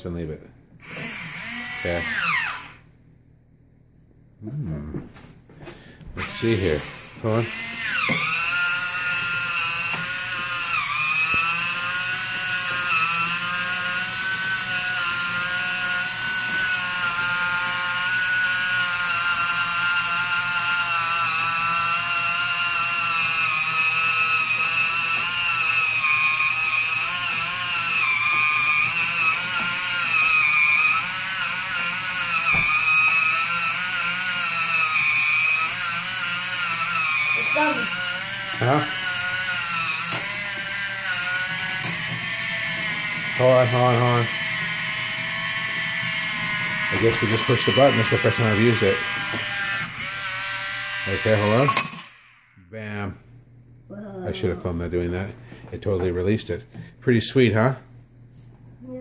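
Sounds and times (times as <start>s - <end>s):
electric can opener whine: 0.7s - 2.9s, 6.1s - 52.8s.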